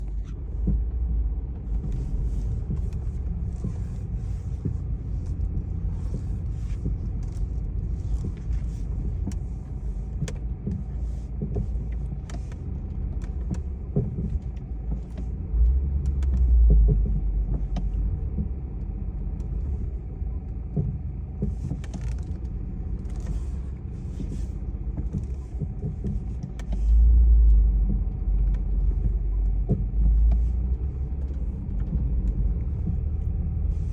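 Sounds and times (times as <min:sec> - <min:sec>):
car driving with low rumble: 0:00.0 - 0:33.9.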